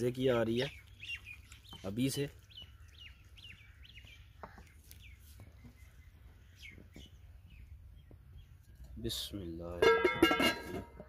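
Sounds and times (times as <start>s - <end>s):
faint bird chirps: 0.3s - 9.6s.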